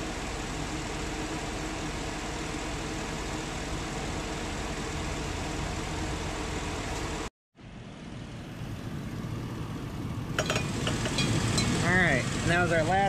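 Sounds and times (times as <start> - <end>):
air conditioning running: 0.0 - 13.0
car engine idling: 0.0 - 13.0.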